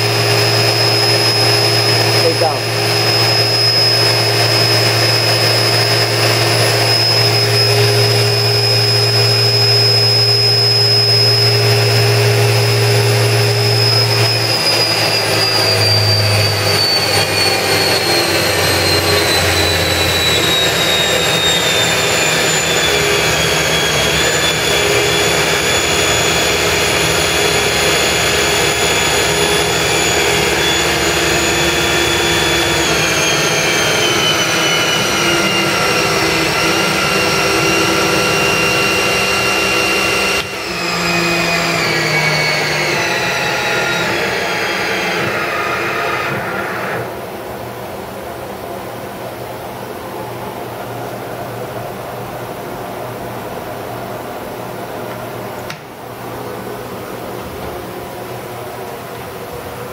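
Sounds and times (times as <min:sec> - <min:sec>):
low machine hum: 0:00.0 - 0:59.9
machine spindle high-pitched whine: 0:00.0 - 0:59.9.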